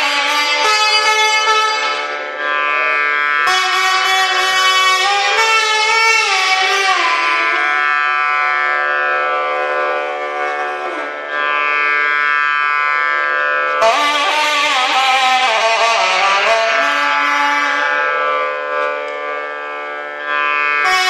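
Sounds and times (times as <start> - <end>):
double-reed wind instrument melody: 0.0 - 21.0.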